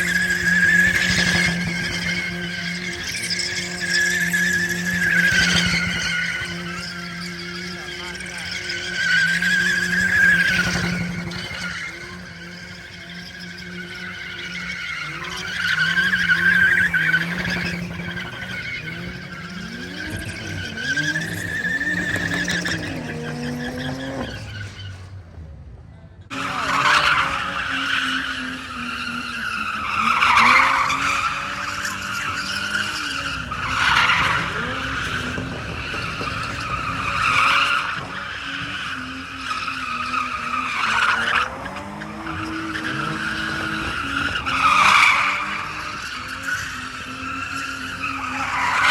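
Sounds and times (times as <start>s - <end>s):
car engine revving: 0.0s - 25.5s, 26.2s - 48.9s.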